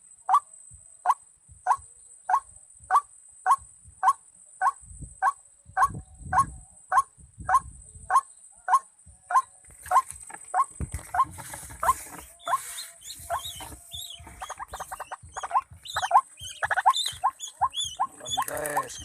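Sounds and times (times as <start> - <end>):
bird croaking calls: 1.7 - 19.0.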